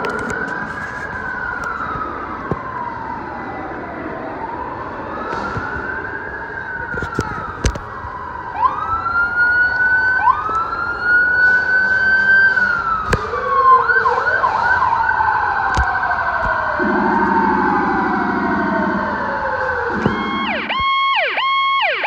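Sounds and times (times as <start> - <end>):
emergency vehicle sirens wailing: 0.0 - 22.0.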